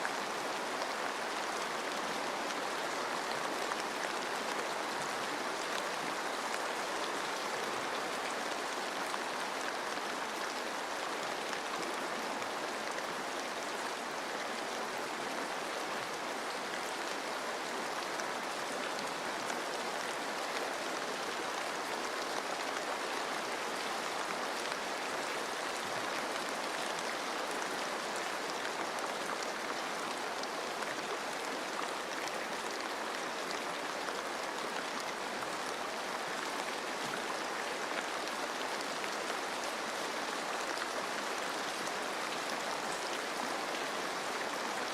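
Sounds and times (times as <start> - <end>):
flowing stream: 0.0 - 44.9.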